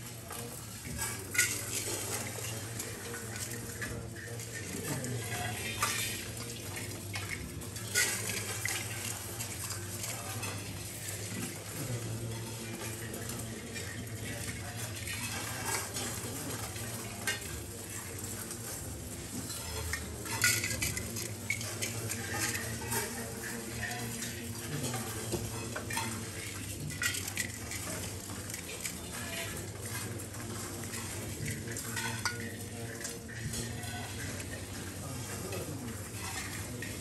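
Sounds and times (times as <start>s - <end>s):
rice grains pattering on metal plates: 0.0s - 37.0s.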